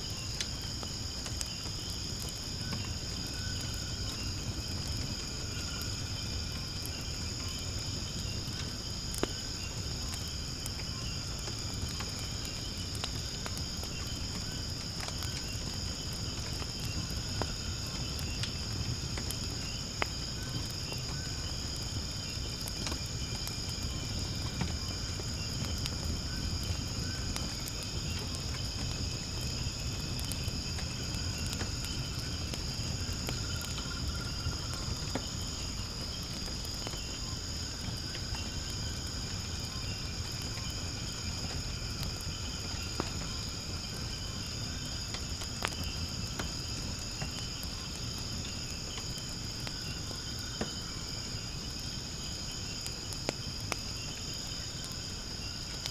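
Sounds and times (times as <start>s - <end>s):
crickets chirping: 0.0s - 55.9s
firewood crackling and popping: 0.0s - 55.9s
low fire rumble: 0.0s - 55.9s.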